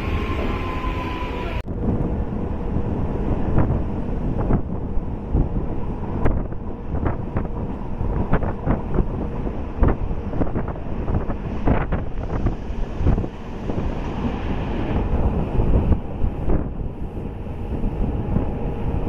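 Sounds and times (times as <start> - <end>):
train rumbling: 0.0 - 19.0
wind buffeting microphone: 0.0 - 19.0.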